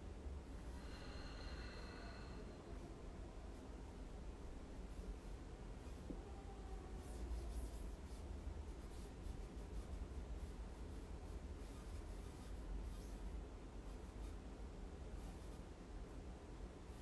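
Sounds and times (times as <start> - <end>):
steady low hum: 0.0 - 17.0
soft scratching and rustling: 0.5 - 17.0.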